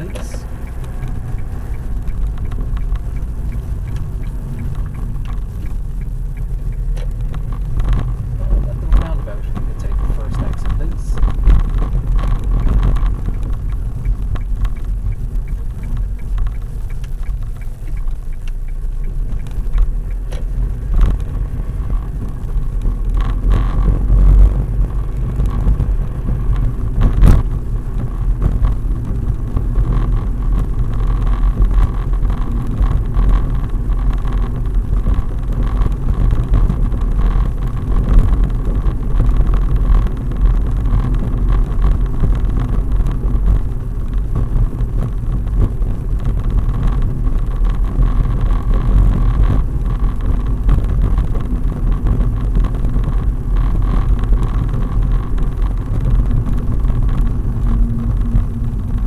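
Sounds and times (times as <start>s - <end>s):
engine and tyre rumble in car: 0.0s - 59.0s.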